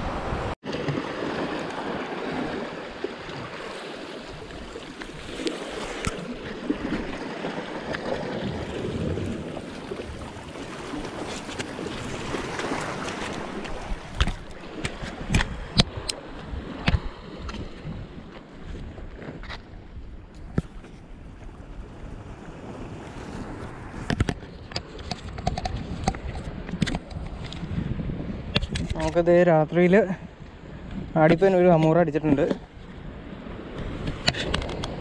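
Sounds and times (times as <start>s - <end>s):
wind on microphone: 0.0s - 0.6s, 1.8s - 29.4s
sea waves washing: 0.0s - 19.1s, 20.8s - 35.0s.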